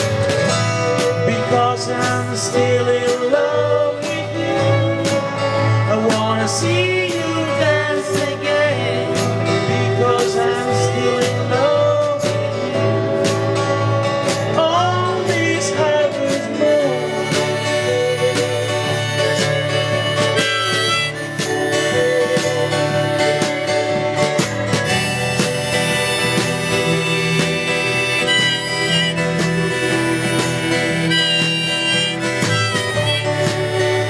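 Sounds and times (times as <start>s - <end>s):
country style band music: 0.0s - 34.0s.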